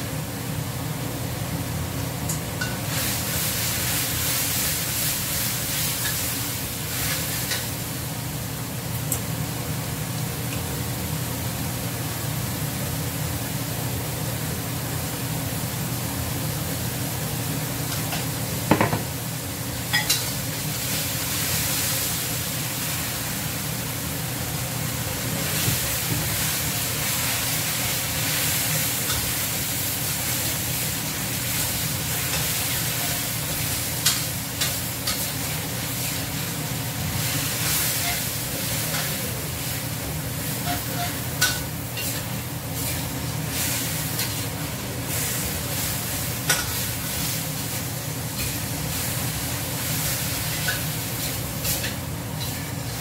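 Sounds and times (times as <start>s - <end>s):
greens sizzling in hot oil: 1.9s - 53.0s.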